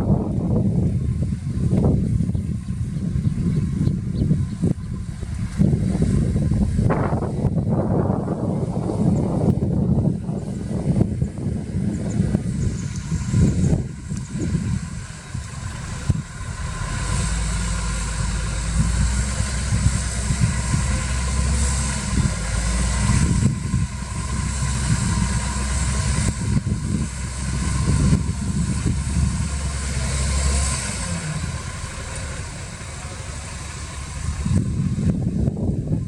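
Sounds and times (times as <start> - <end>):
diesel machinery engine drone: 0.0 - 36.0.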